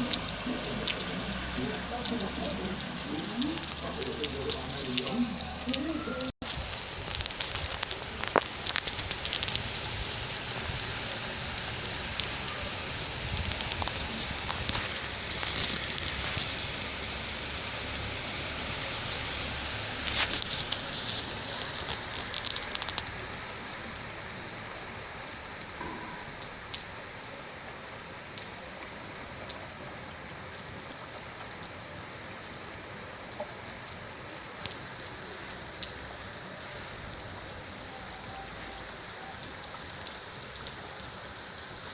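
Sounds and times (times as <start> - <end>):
rain falling: 0.0 - 41.9
raindrops ticking sharply: 0.0 - 41.9.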